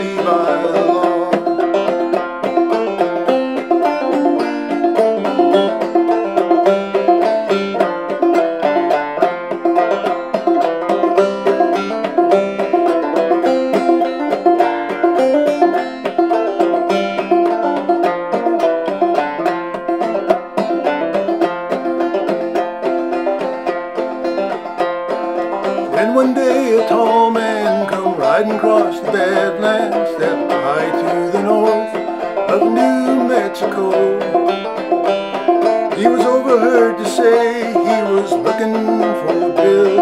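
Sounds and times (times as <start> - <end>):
banjo plucked and strummed: 0.0 - 40.0.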